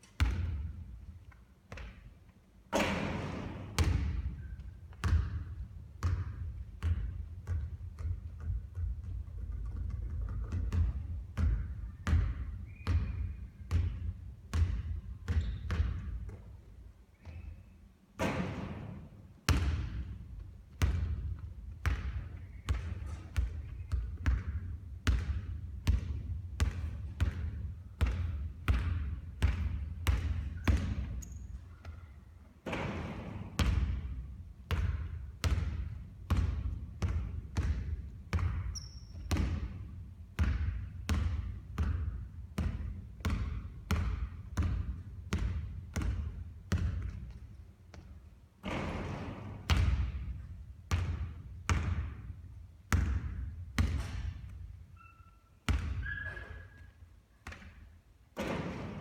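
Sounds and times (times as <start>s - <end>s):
basketball bouncing on court: 0.1s - 17.6s, 18.2s - 59.0s.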